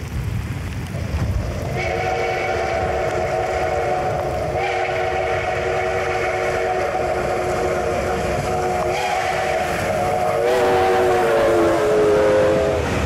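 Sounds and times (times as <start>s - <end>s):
low rumble of moving train: 0.0s - 13.0s
steam locomotive whistle: 1.7s - 13.0s.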